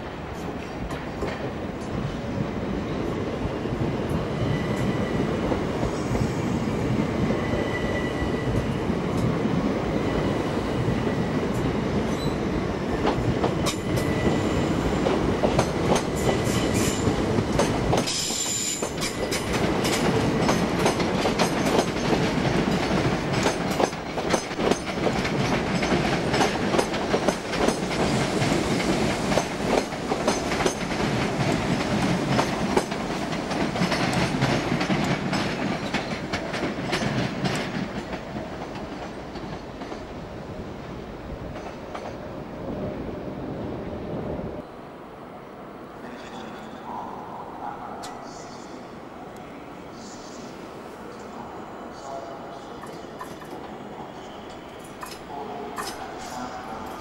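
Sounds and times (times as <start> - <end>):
train running through station: 0.0 - 57.0.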